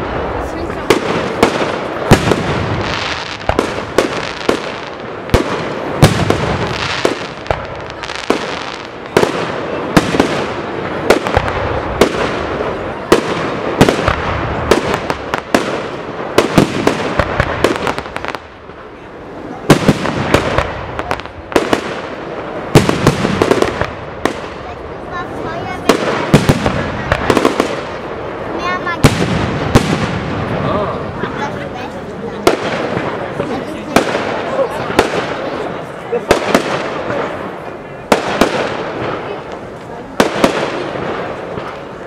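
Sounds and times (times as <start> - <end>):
continuous noisy wash: 0.0 - 42.0
firework bangs: 0.0 - 42.0.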